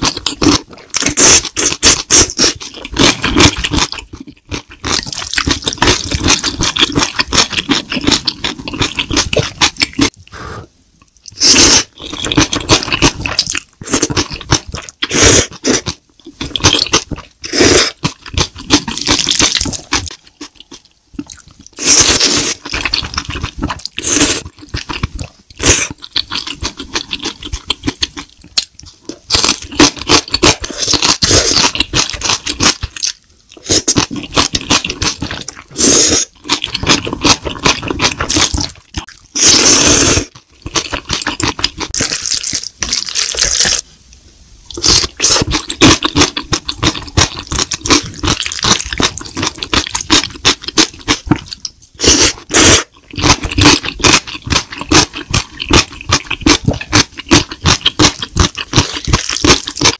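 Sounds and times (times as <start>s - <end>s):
wet chewing and smacking: 0.0s - 10.2s, 11.0s - 21.8s, 22.5s - 39.4s, 40.3s - 43.8s, 44.7s - 59.9s
slurping noodles: 0.0s - 10.7s, 11.3s - 28.3s, 29.4s - 32.8s, 33.6s - 42.1s, 44.8s - 59.9s.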